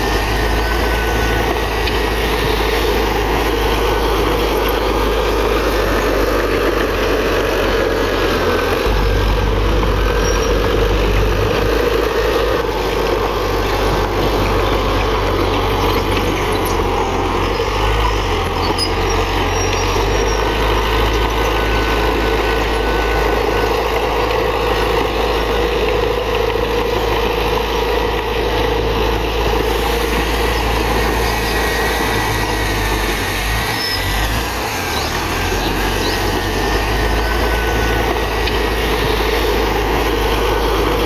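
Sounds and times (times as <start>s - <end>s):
diesel machinery engine rumble: 0.0s - 41.0s.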